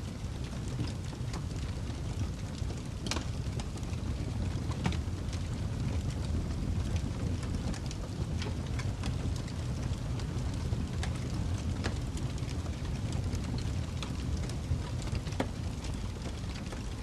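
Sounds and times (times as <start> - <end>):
wood fire burning: 0.0 - 17.0.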